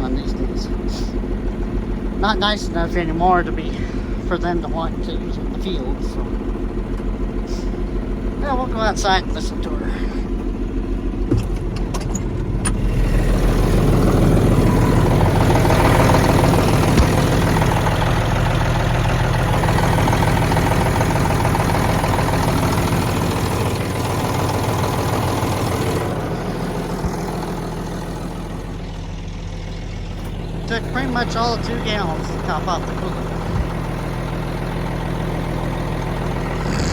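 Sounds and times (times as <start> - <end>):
diesel tractor idling: 0.0 - 36.9.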